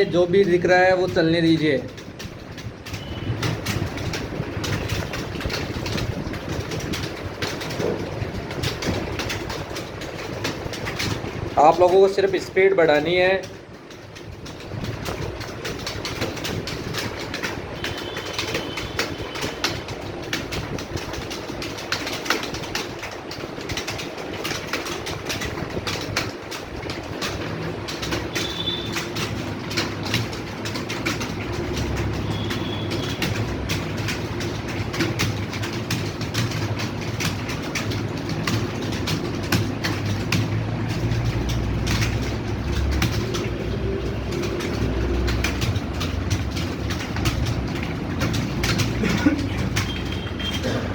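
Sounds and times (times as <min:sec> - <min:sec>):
keyboard key clicks clattering: 0:00.0 - 0:50.9.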